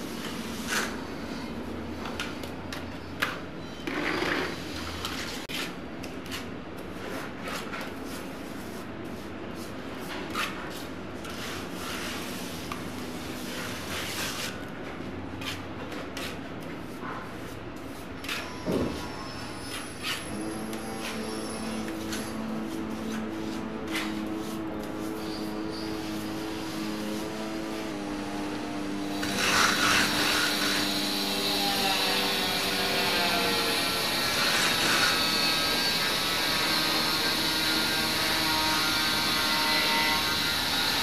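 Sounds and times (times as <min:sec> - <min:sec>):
trowel scraping mortar on wall: 0:00.2 - 0:02.8, 0:04.0 - 0:14.6, 0:15.4 - 0:27.3, 0:29.1 - 0:41.0.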